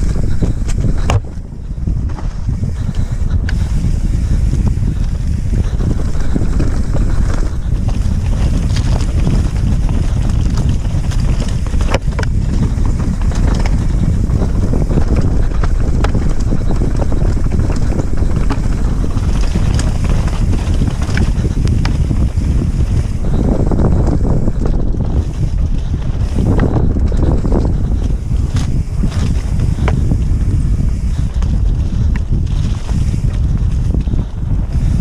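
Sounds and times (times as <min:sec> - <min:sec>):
bike rattling over rough ground: 0:00.0 - 0:35.0
wind buffeting microphone: 0:00.0 - 0:35.0.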